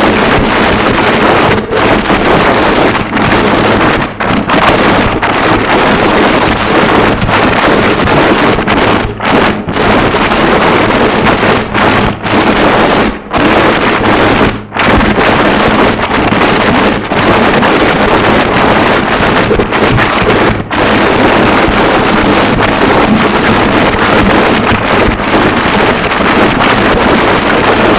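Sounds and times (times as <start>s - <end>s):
distorted static noise: 0.0s - 27.9s.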